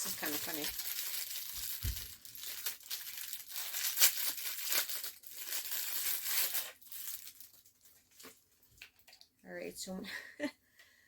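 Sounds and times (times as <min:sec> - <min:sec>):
packaging being torn and crinkled: 0:00.0 - 0:09.2.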